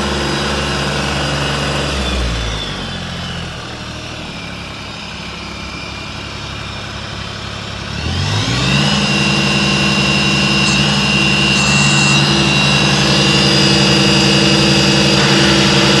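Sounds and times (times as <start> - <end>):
high-pitched whine: 0.0 - 16.0
tractor diesel engine revving: 0.0 - 16.0.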